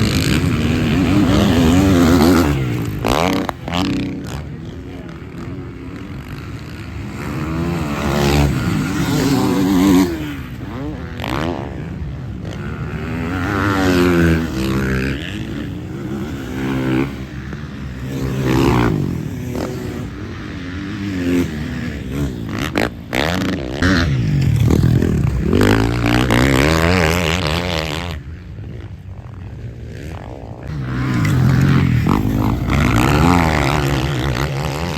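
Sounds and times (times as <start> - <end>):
motocross bikes revving: 0.0 - 34.9.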